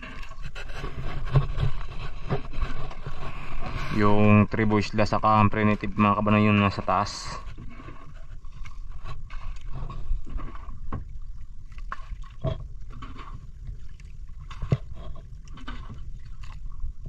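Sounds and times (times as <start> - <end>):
water splashing against hull: 0.0 - 17.0.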